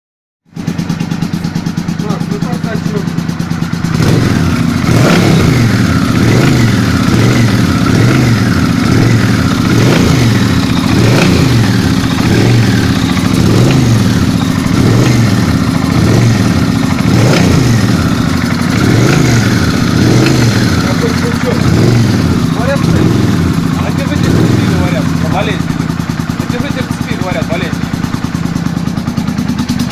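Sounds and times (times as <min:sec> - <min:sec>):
engine knock: 0:00.5 - 0:29.9
motorcycle engine revving: 0:00.5 - 0:29.9.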